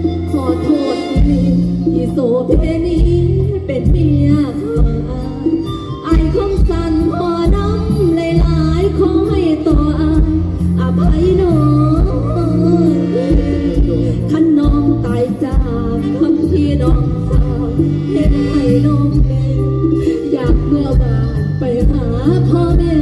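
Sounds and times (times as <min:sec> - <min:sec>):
bass notes: 0:00.0 - 0:23.0
drum beats: 0:00.0 - 0:23.0.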